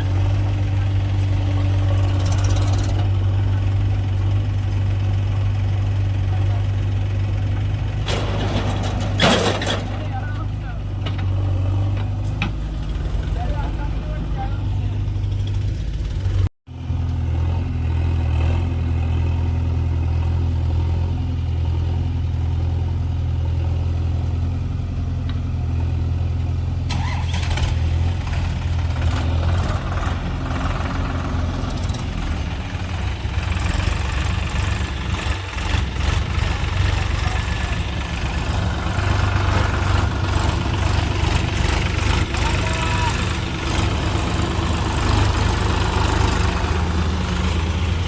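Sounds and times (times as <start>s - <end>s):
diesel engine droning: 0.0s - 48.0s.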